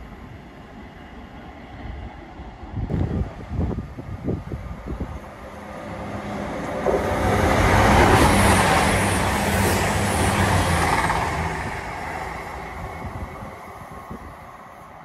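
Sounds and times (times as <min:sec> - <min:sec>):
rush of train wheels and air: 0:00.0 - 0:15.0.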